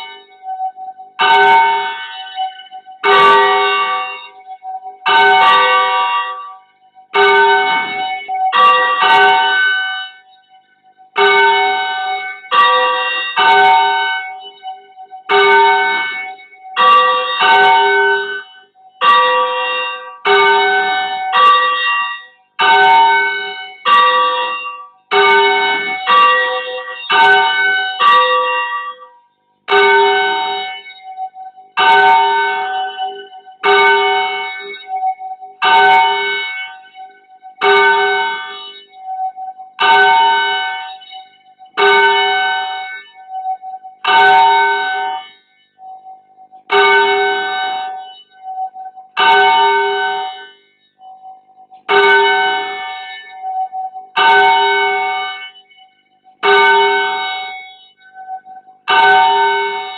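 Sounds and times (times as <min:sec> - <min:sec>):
bells humming: 0:00.0 - 0:29.0, 0:29.7 - 0:59.9
church bell strokes: 0:00.0 - 0:59.9.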